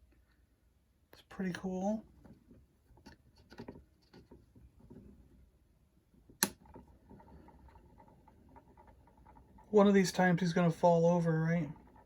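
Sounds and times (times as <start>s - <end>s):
faint handling noises: 0.0s - 12.0s.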